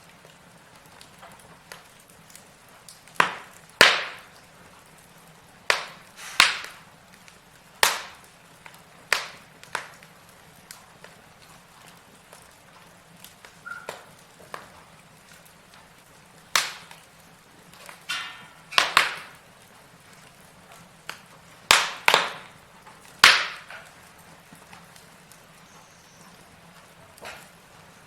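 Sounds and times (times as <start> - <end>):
logs crackling in fireplace: 0.0 - 28.0.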